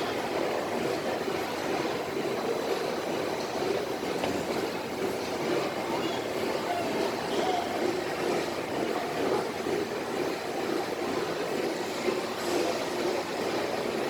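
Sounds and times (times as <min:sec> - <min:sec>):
workshop machinery rumbling: 0:00.0 - 0:14.0.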